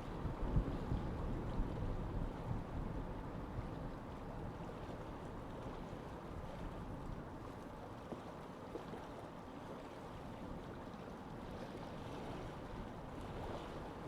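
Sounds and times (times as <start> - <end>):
low rushing wind and water: 0.0 - 14.0.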